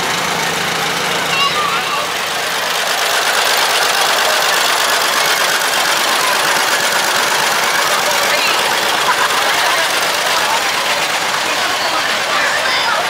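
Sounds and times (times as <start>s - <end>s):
tractor engine driving past: 0.0s - 13.0s.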